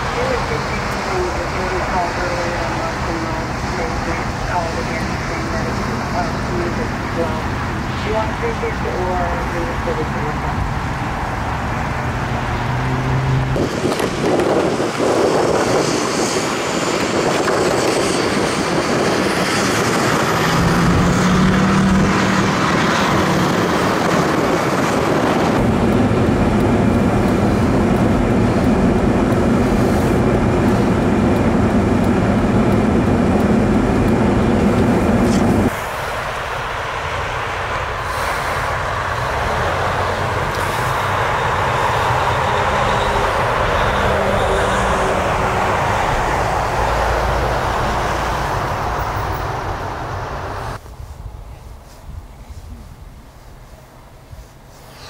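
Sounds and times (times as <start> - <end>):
tyres on road: 0.0 - 55.0
vehicle engines: 0.0 - 55.0.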